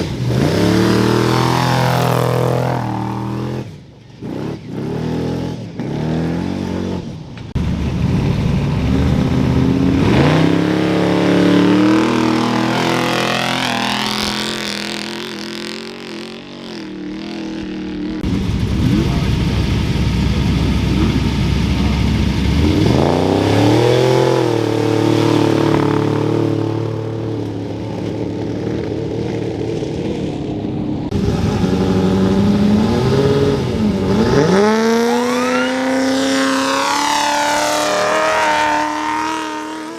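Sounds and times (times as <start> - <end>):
race vehicle engines revving: 0.0 - 39.9.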